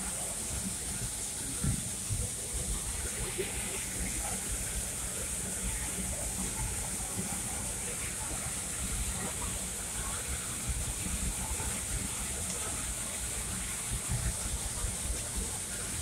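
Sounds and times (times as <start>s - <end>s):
steam train running on track: 0.0s - 16.0s.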